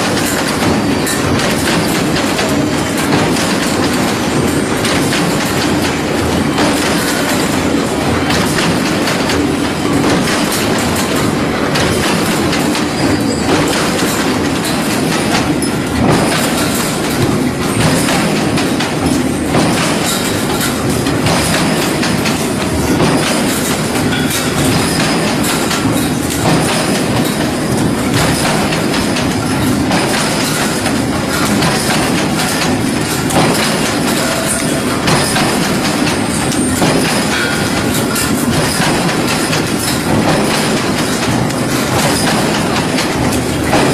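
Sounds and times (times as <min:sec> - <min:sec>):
wire mesh machine clattering: 0:00.0 - 0:43.9.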